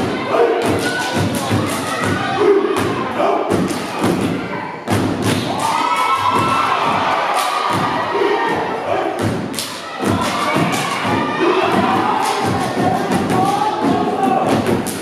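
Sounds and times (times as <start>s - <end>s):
stomping and clapping: 0.0s - 15.0s.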